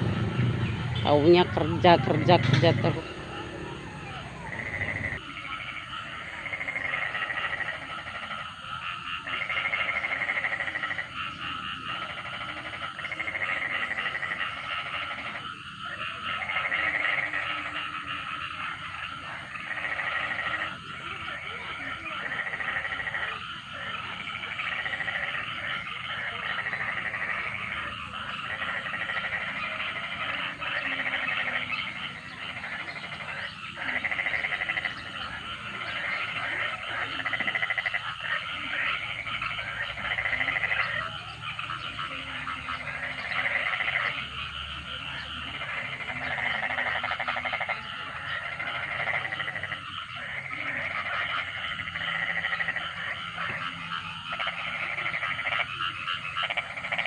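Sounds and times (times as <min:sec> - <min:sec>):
frogs croaking in chorus: 0:00.0 - 0:57.0.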